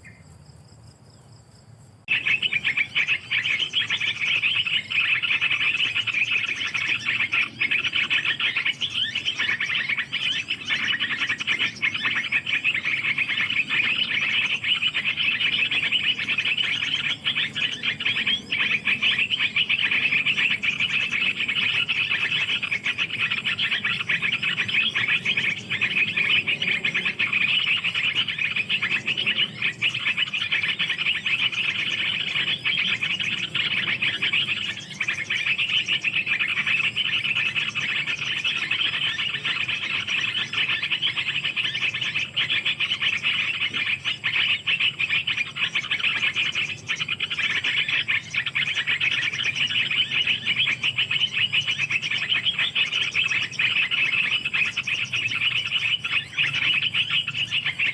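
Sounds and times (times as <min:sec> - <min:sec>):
insects and frogs calling: 0:00.0 - 0:57.9.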